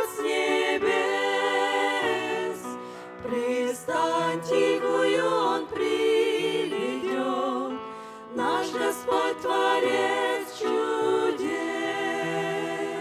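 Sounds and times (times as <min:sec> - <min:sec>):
women singing a hymn in harmony: 0:00.0 - 0:13.0.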